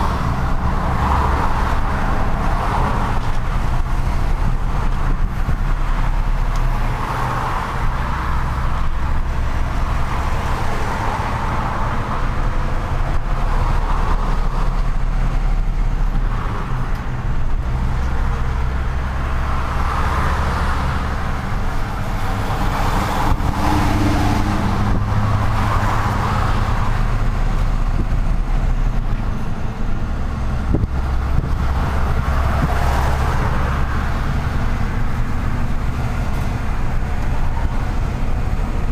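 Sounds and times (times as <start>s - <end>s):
road noise: 0.0s - 38.9s
truck engine running: 0.0s - 38.9s.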